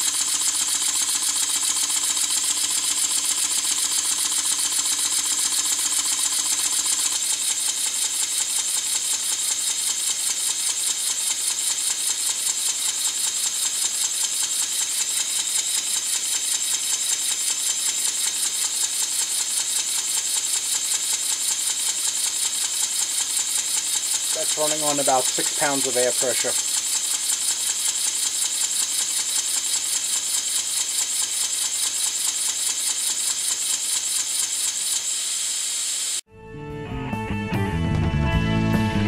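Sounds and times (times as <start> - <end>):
steam engine chuffing hiss: 0.0 - 36.2.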